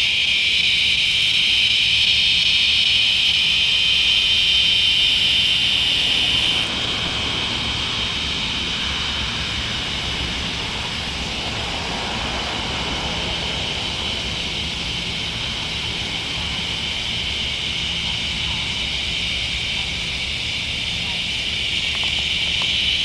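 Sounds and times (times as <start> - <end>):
cicadas buzzing: 0.0 - 23.0.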